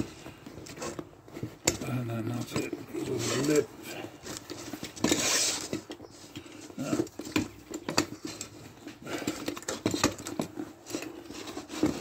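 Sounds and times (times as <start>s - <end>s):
rubber tyre rubbing and scraping: 0.0s - 12.0s.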